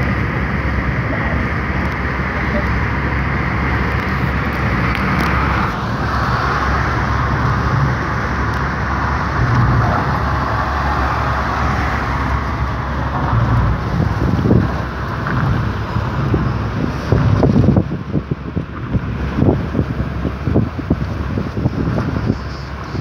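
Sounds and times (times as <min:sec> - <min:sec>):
car engine hum: 0:00.0 - 0:23.0
car road noise: 0:00.0 - 0:23.0
rushing air: 0:00.0 - 0:23.0.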